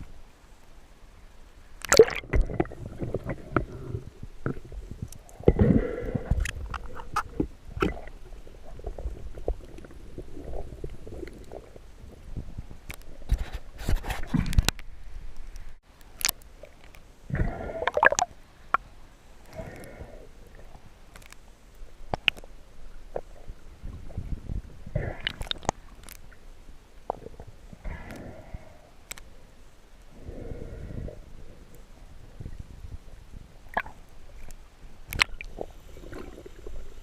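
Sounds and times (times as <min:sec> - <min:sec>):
underwater gurgling and sloshing: 0:00.0 - 0:37.0.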